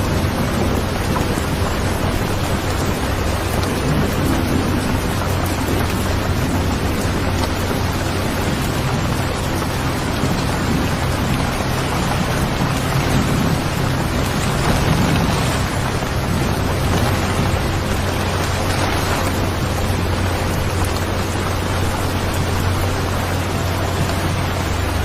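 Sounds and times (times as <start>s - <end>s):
continuous low rumble: 0.0s - 25.0s
steady rain: 0.0s - 25.0s.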